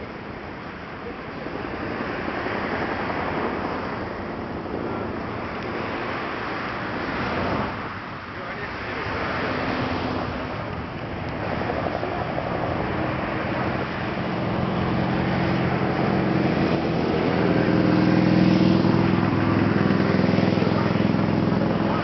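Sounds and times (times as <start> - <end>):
helicopter rotor and engine drone: 0.0 - 22.0.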